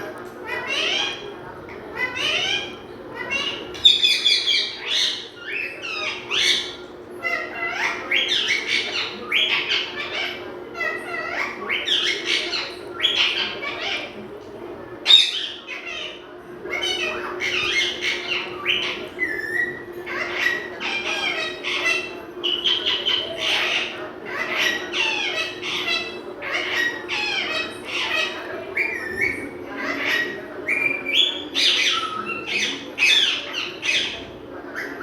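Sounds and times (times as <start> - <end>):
parrot chattering and squawking: 0.4 - 14.2, 15.0 - 35.0.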